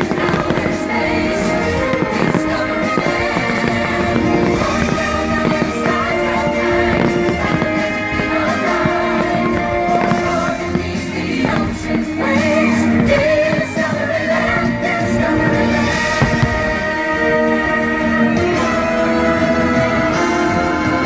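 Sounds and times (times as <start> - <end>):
firework bursts cracking: 0.0 - 21.0
loud music with singing: 0.0 - 21.0.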